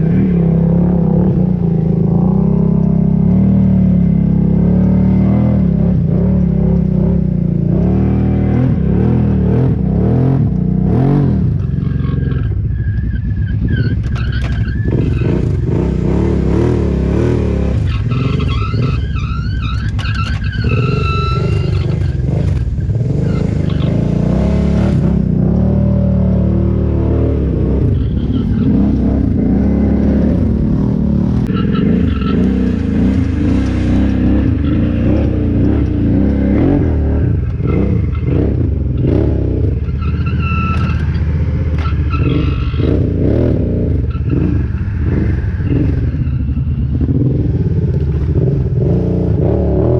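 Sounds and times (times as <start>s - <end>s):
quad bike engines revving: 0.0s - 49.9s.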